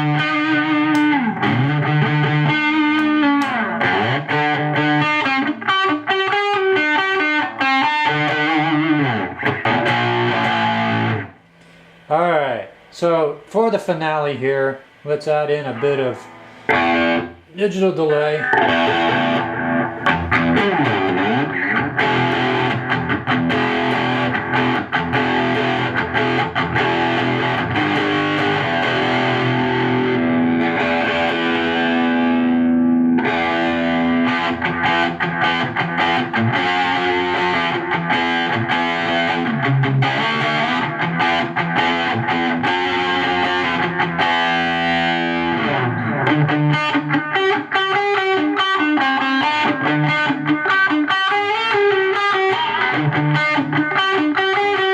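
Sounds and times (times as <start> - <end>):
distorted electric guitar: 0.0 - 14.0, 14.7 - 54.9.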